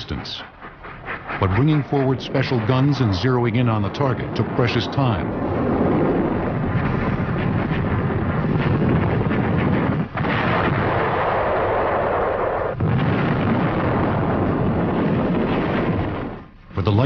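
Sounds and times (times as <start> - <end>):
artillery gunfire and shell explosions: 0.0 - 17.0.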